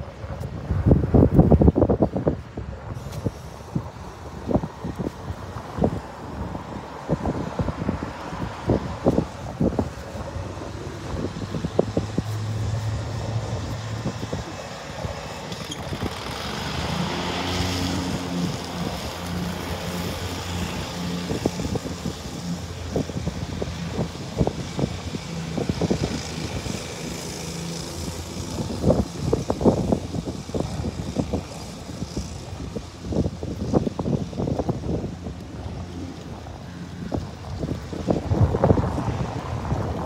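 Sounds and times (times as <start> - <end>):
passing vehicle: 0.0 - 40.0.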